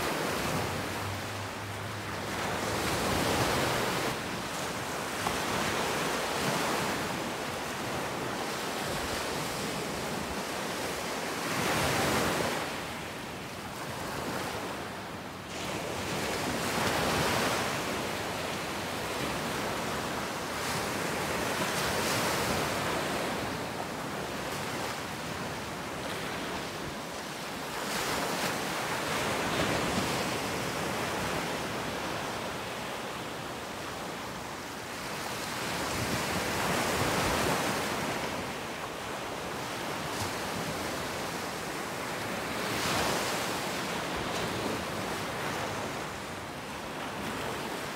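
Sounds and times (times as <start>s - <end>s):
waves breaking on shore: 0.0s - 47.9s.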